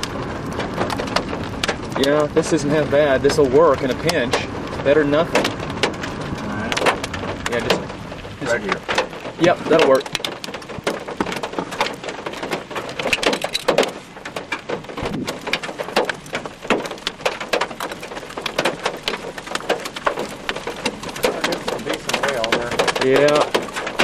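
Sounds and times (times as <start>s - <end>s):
rain drops hitting: 0.0s - 24.0s.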